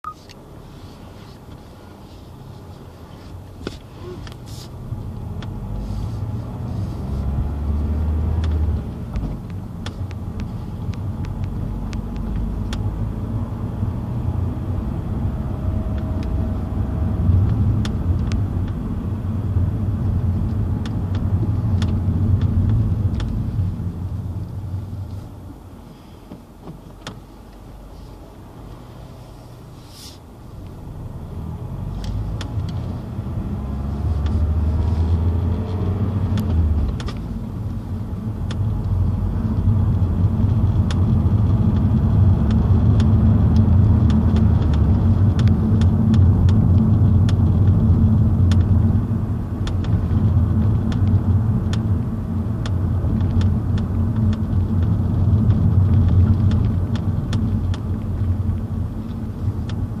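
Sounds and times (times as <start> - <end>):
car engine and road rumble: 0.0 - 60.0.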